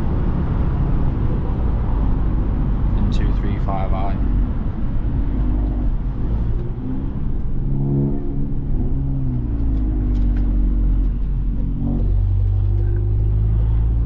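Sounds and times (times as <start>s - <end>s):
car engine running: 0.0s - 14.0s
low road rumble: 0.0s - 14.0s.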